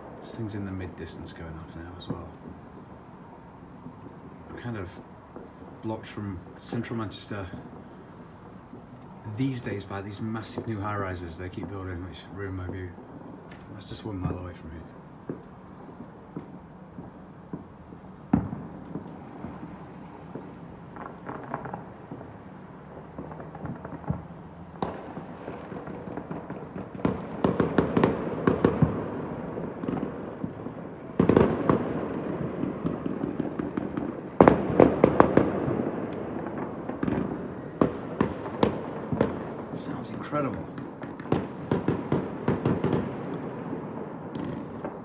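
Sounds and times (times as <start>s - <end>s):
distant fireworks bangs: 0.0s - 45.0s
fireworks crackling: 0.0s - 45.0s.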